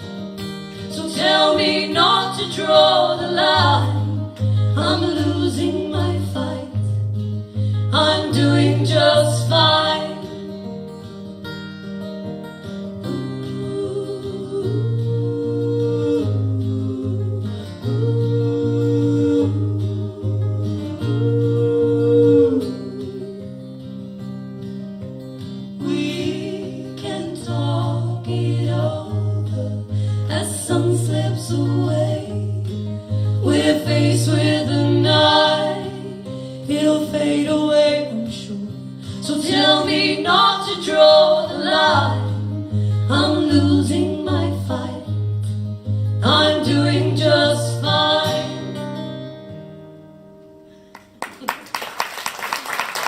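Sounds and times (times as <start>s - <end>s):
guitar: 0.0s - 53.0s
people singing: 0.7s - 7.0s, 7.8s - 10.7s, 13.0s - 23.9s, 25.7s - 45.6s, 46.2s - 49.1s.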